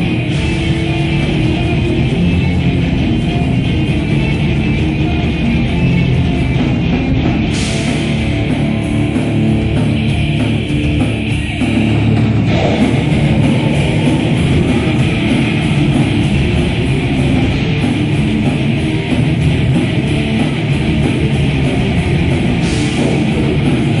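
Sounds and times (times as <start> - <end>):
heavy metal band playing live: 0.0 - 24.0.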